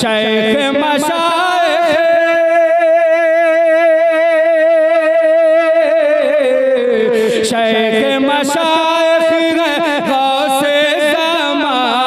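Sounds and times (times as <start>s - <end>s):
person singing long note with vibrato: 0.0s - 12.0s.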